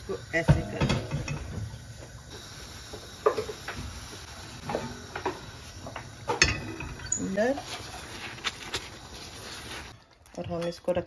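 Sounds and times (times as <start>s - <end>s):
low gas hiss: 0.0s - 9.9s.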